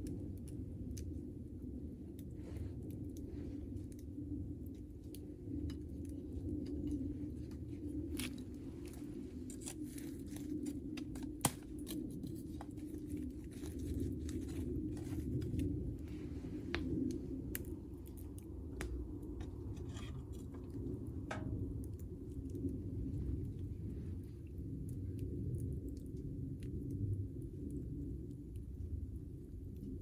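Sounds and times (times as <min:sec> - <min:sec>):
low rush of flame: 0:00.0 - 0:30.0
wood fire crackling and popping: 0:00.0 - 0:30.0.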